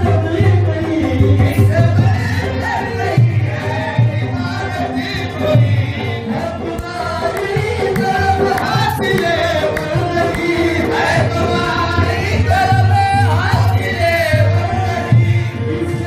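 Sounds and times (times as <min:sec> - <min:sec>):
group singing devotional song: 0:00.0 - 0:16.0
instrumental accompaniment: 0:00.0 - 0:16.0.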